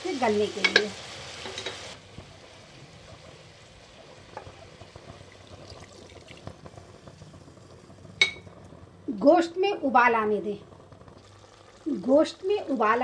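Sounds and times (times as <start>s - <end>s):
water trickling into pot: 0.2s - 13.0s.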